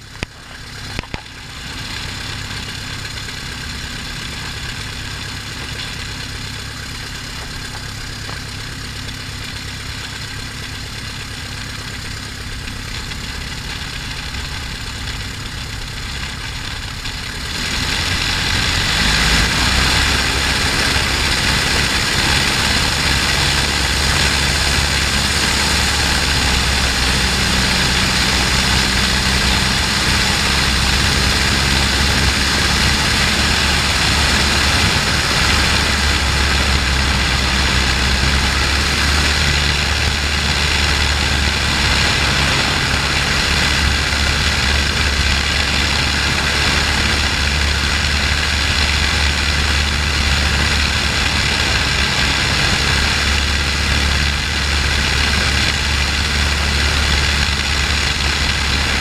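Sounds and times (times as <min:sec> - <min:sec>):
airplane engine at full power: 0:00.0 - 0:59.0.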